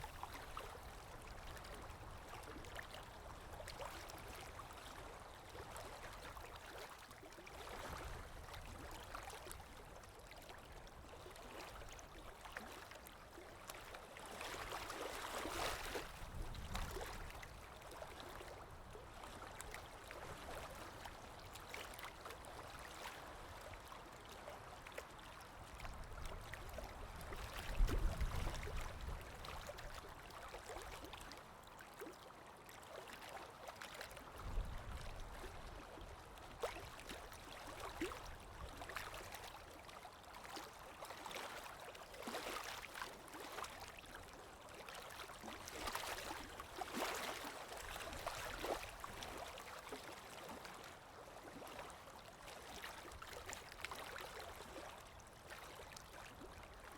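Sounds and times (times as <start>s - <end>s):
small waves lapping: 0.0s - 56.9s.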